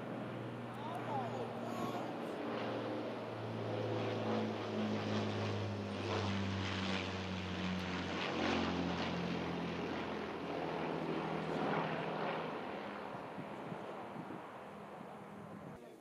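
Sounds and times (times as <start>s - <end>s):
propeller plane engines droning: 0.0s - 15.9s.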